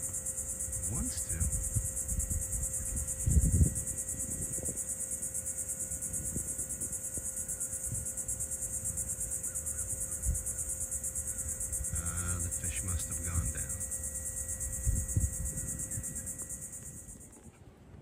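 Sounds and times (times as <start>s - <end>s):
insects trilling: 0.0s - 17.6s.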